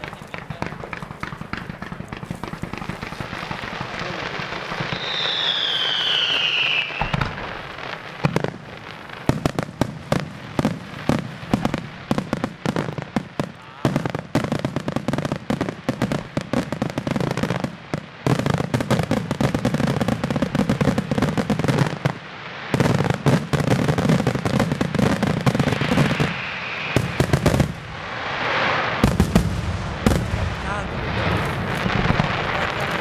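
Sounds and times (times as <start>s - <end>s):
fireworks hiss: 0.0s - 33.0s
fireworks popping and banging: 0.0s - 33.0s.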